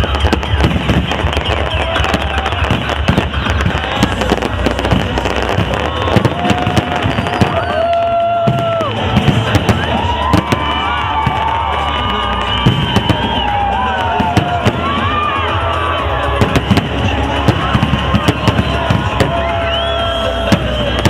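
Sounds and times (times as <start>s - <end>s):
firework whistles: 0.0s - 15.0s, 16.3s - 21.0s
fireworks crackling bangs: 0.0s - 21.0s.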